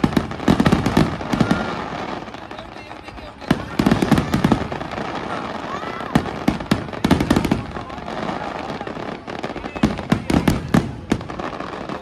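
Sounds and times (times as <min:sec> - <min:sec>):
fireworks cracks and bangs: 0:00.0 - 0:12.0.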